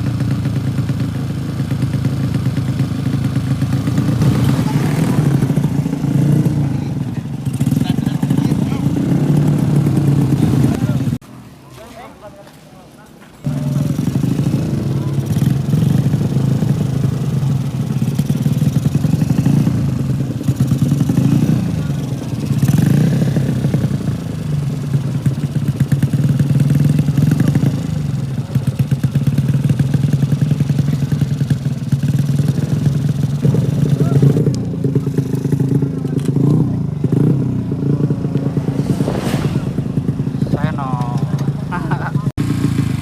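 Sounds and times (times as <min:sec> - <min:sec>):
motorcycle engines revving: 0:00.0 - 0:11.2, 0:13.0 - 0:43.0.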